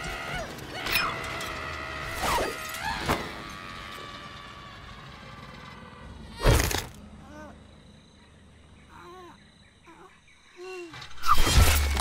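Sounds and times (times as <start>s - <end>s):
small drone whirring hum: 0.0s - 12.0s.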